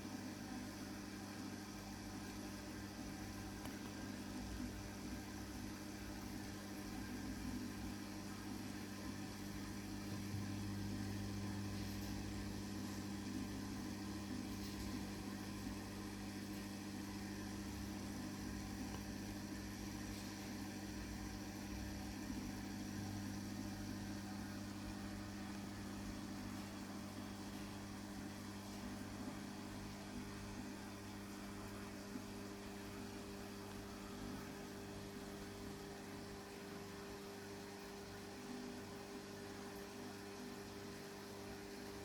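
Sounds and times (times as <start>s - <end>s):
aquarium equipment humming: 0.0s - 42.0s.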